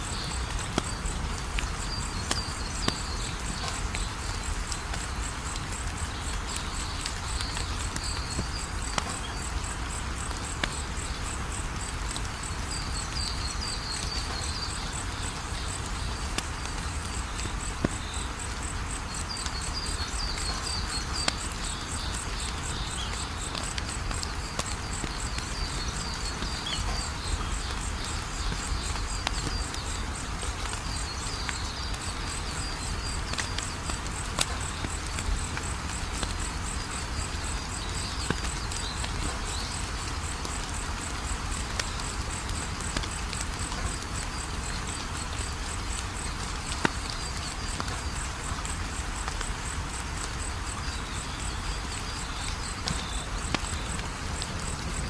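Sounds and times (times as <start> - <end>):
crickets trilling: 0.0 - 55.0
wood fire crackling and popping: 0.2 - 12.4, 14.3 - 51.0, 51.9 - 55.0.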